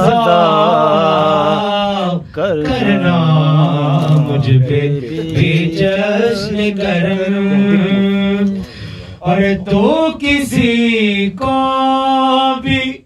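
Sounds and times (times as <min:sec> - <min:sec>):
man singing long held notes: 0:00.0 - 0:13.0.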